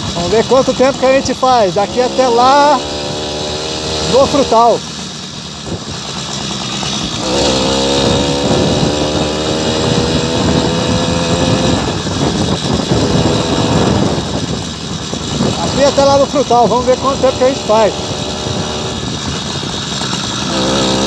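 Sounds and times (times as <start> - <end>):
small engine pulling away: 0.0 - 21.0.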